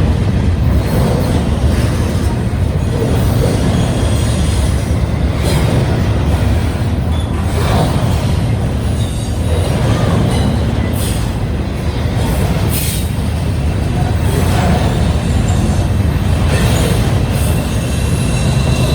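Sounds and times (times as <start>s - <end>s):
rumble of steel wheels on rail: 0.0s - 18.9s.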